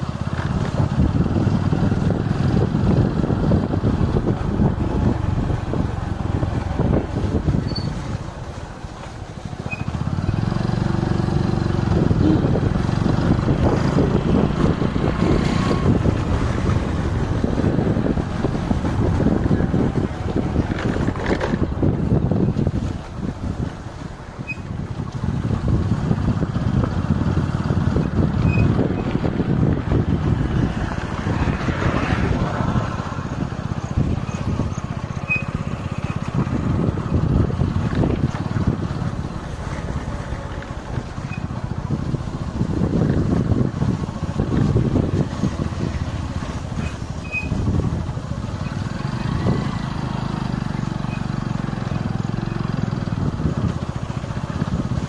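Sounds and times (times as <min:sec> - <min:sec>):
motorcycle engine: 0:00.0 - 0:55.0
road noise: 0:00.0 - 0:55.0
wind rumbling on microphone: 0:00.0 - 0:55.0.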